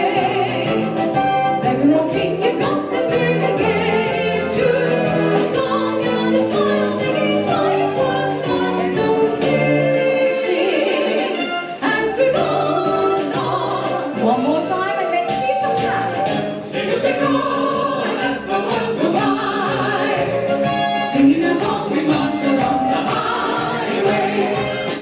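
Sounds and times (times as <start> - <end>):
instrumental accompaniment: 0.0 - 25.0
women singing together: 0.0 - 25.0.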